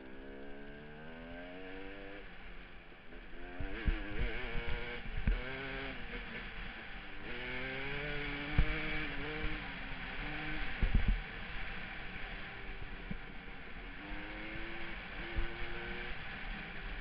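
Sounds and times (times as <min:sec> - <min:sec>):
dirt bike engine revving: 0:00.0 - 0:02.4, 0:03.1 - 0:17.0.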